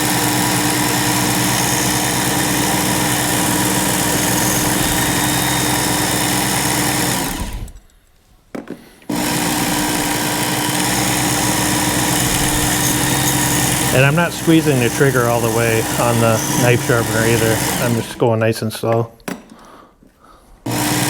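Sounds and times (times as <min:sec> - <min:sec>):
electric belt sharpener running: 0:00.0 - 0:07.8, 0:09.1 - 0:18.3, 0:20.7 - 0:21.0.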